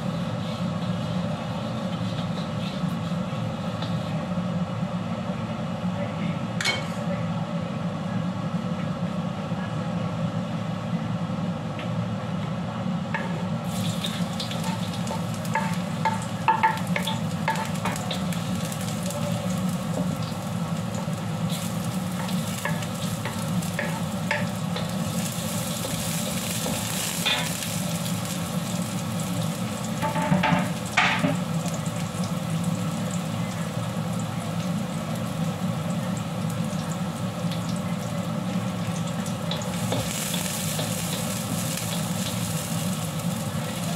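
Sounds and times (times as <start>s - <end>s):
oil sizzling in a wok: 0.0s - 4.7s, 13.1s - 43.9s.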